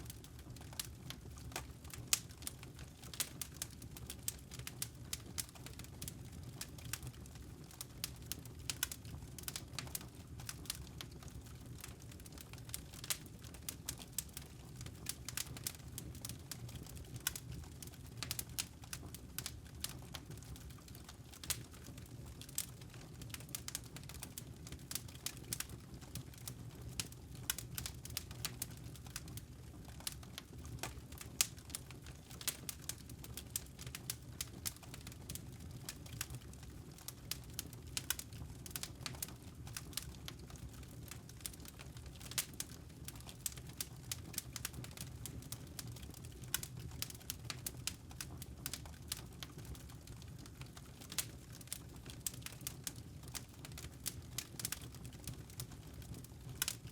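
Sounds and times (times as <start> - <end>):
firewood popping and crackling: 0.0 - 56.9.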